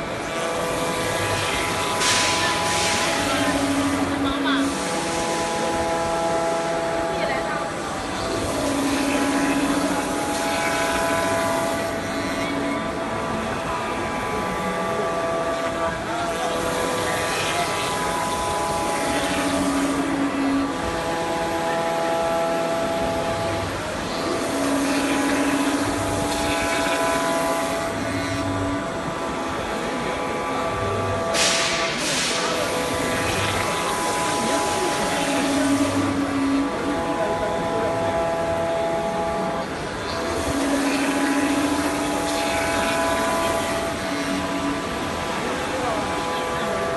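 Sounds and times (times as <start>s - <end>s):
router spindle humming: 0.0s - 46.9s.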